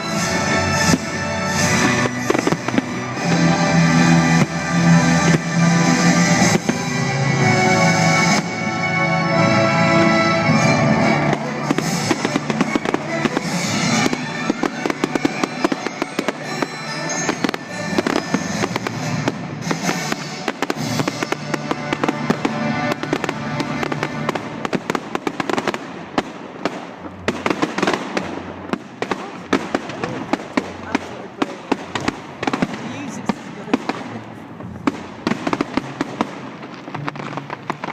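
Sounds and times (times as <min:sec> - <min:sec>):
fireworks crackling and banging: 0:00.0 - 0:37.9
music: 0:00.0 - 0:37.9.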